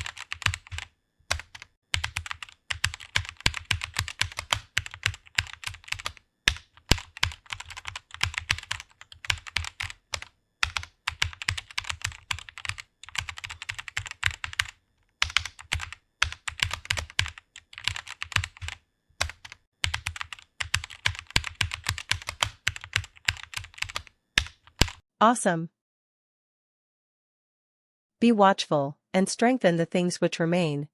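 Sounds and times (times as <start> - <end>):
fast typing on keyboard: 0.0 - 25.0.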